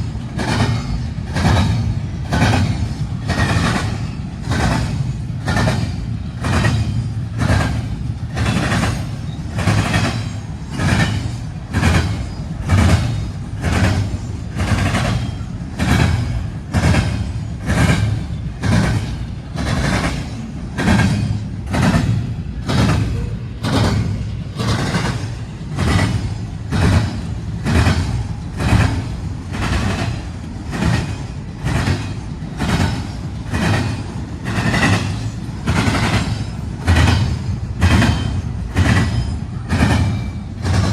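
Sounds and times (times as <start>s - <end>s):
train rumbling past: 0.0s - 40.9s
wheels clacking on rail joints: 0.0s - 40.9s.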